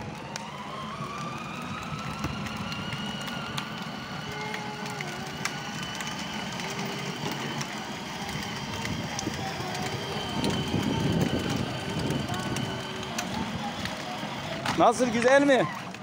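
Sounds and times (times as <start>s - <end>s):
electric motor whining: 0.0s - 16.0s
plastic wheels rolling on asphalt: 0.0s - 16.0s.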